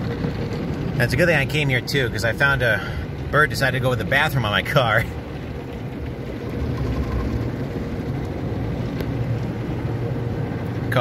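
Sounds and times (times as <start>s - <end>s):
car wash equipment rumble: 0.0s - 11.0s.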